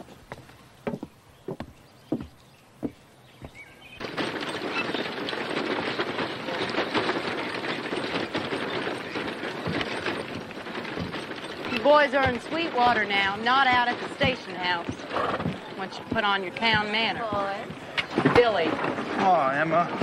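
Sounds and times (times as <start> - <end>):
footsteps on wooden boards: 0.0 - 20.0
horse hooves and wheels clattering: 0.0 - 20.0
town street bustle: 2.1 - 20.0.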